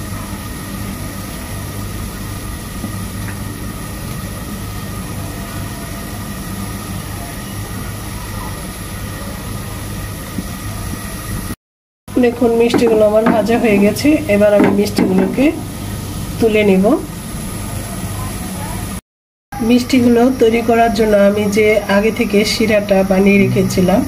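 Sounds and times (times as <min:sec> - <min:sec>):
steady mechanical hum: 0:00.0 - 0:19.0, 0:19.6 - 0:24.0.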